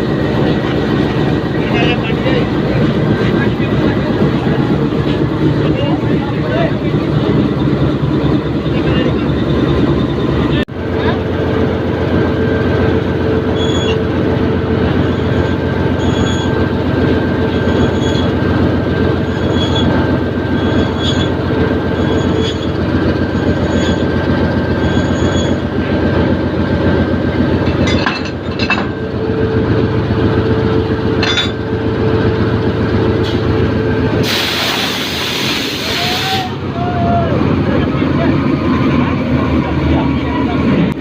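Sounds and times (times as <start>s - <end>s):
diesel locomotive engine rumbling: 0.0s - 41.0s.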